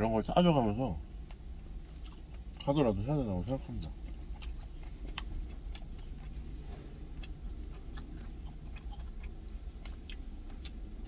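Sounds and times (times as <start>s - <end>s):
low hum: 0.0s - 11.0s
person chewing food: 1.2s - 11.0s.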